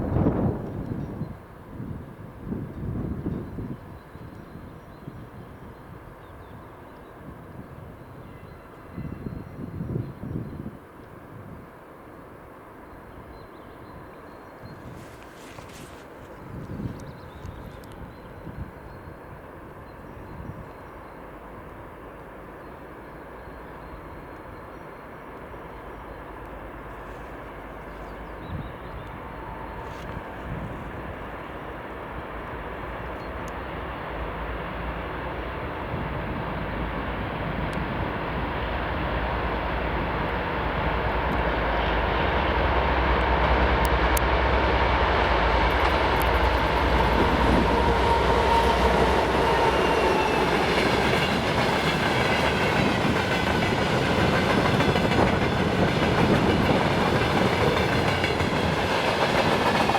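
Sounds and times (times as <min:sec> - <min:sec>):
diesel locomotive hauling freight: 0:00.0 - 0:59.9
train rumble: 0:00.0 - 0:59.9.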